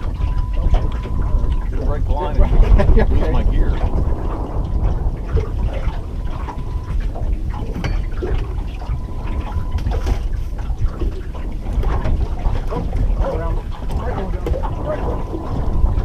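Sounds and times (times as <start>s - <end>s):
heavy low rumble: 0.0s - 16.0s
water splashing: 0.0s - 16.0s
wind buffeting microphone: 0.0s - 16.0s.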